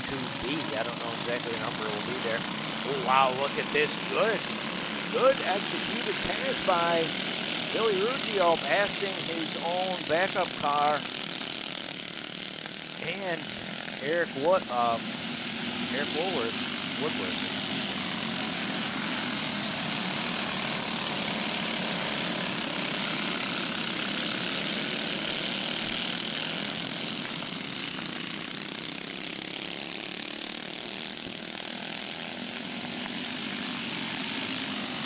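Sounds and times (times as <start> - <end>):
go-kart engines buzzing: 0.0 - 35.0.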